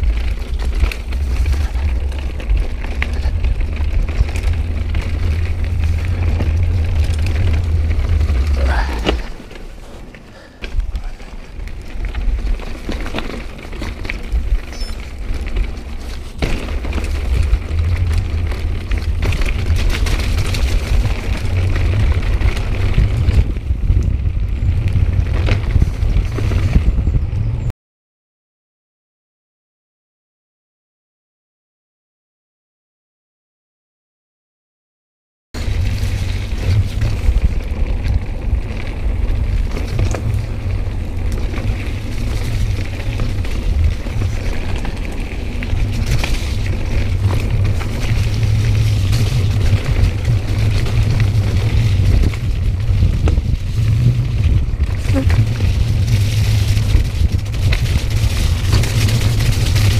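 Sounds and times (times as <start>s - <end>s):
bike rattling: 0.0s - 27.7s, 35.6s - 59.9s
wind rumble on microphone: 0.0s - 27.7s, 35.6s - 59.9s.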